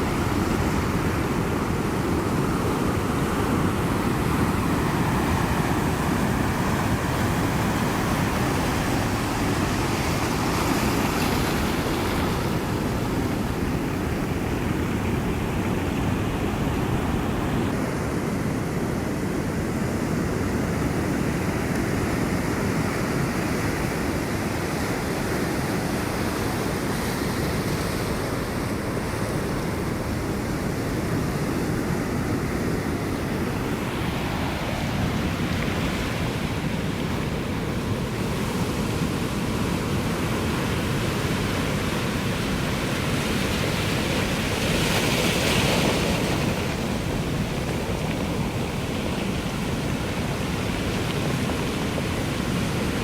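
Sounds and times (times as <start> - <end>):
ocean waves washing ashore: 0.0 - 53.0.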